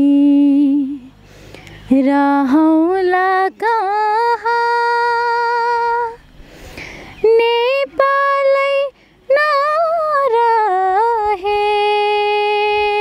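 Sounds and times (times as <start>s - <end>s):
woman singing unaccompanied: 0.0s - 6.3s, 7.1s - 13.0s.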